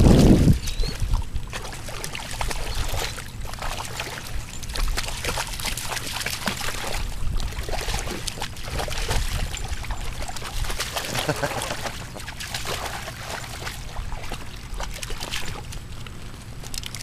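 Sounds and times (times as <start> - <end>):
dog splashing through water: 0.0 - 17.0.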